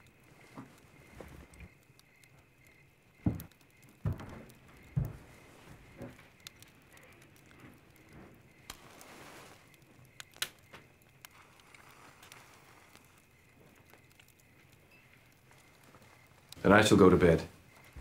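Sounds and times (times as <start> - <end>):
faint clicks and knocks: 0.0 - 16.6.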